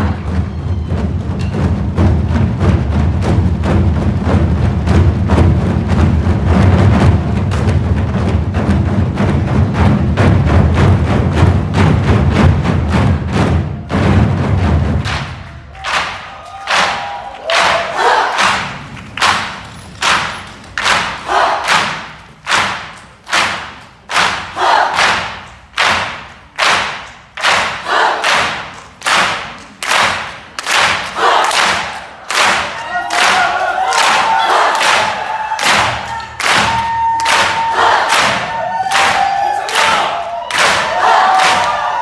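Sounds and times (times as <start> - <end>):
drums struck in unison: 0.0 - 42.0.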